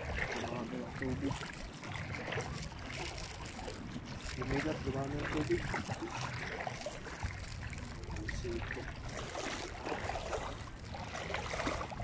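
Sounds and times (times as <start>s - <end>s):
seawater sloshing from wading: 0.0s - 12.0s.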